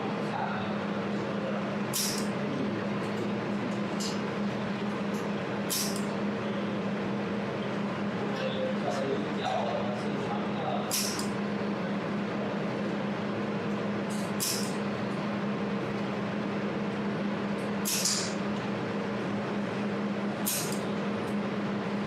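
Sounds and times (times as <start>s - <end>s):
fan noise: 0.0s - 22.0s
laser welding machine humming: 0.0s - 22.0s.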